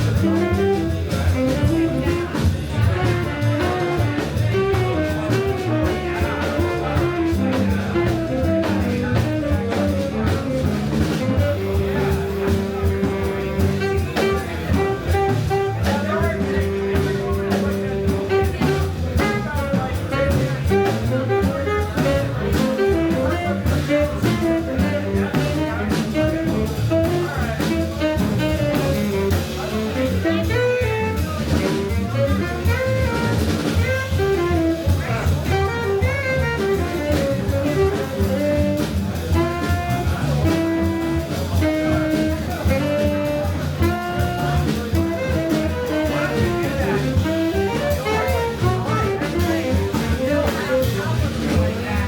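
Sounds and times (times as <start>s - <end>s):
live jazz band playing: 0.0s - 52.0s.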